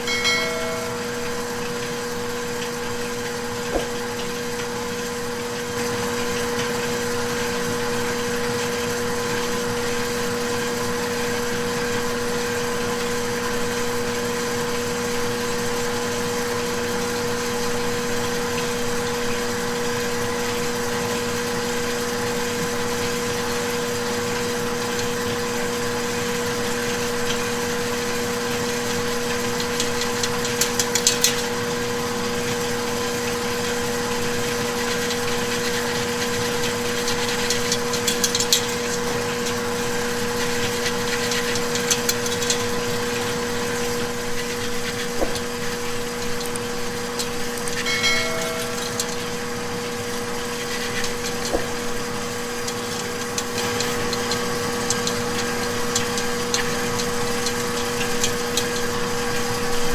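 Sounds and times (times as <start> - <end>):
kitchen machinery motor hum: 0.0 - 59.9.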